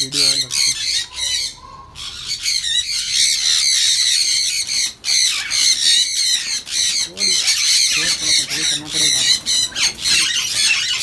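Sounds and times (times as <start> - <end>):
parrot squawking harshly: 0.0 - 11.0.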